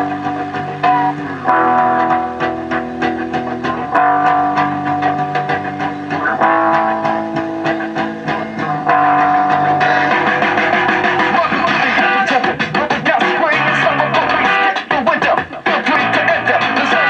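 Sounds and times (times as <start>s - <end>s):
rock music on a tv speaker: 0.0s - 17.0s.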